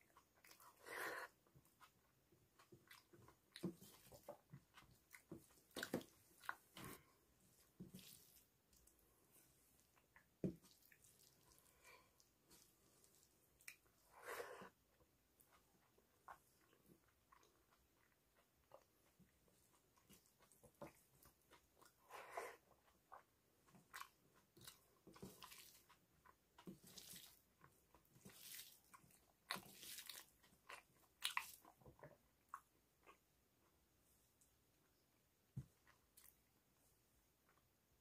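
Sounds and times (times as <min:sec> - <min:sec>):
person chewing wetly: 0:00.0 - 0:33.8.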